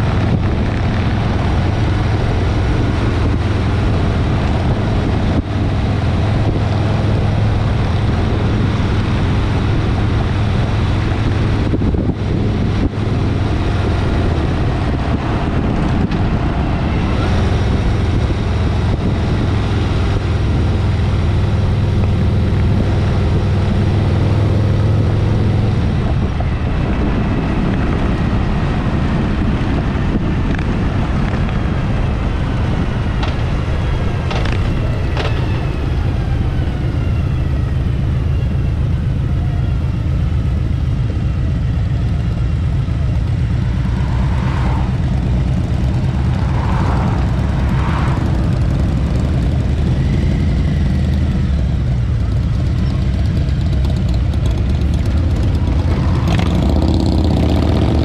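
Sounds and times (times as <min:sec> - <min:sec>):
motorcycle engine drone: 0:00.0 - 0:58.0
wind noise: 0:00.0 - 0:58.0.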